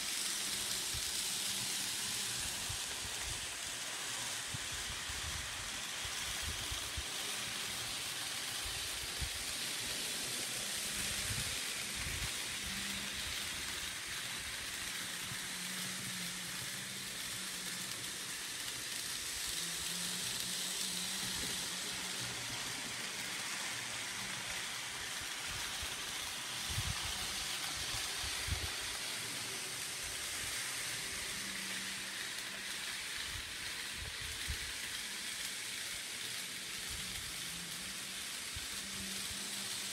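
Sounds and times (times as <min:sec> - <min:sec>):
model train motor hum: 0:00.0 - 0:39.9
steady hiss: 0:00.0 - 0:39.9.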